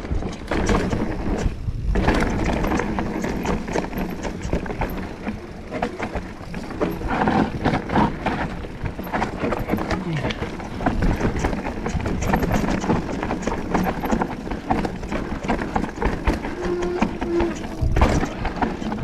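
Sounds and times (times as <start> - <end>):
bike clattering over rocks: 0.0 - 19.0.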